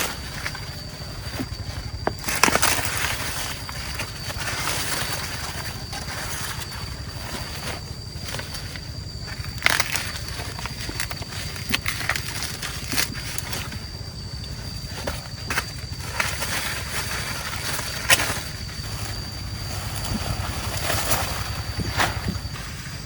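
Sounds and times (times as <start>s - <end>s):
corn ears snapping: 0.0s - 23.0s
dry corn plants rustling: 0.0s - 23.0s.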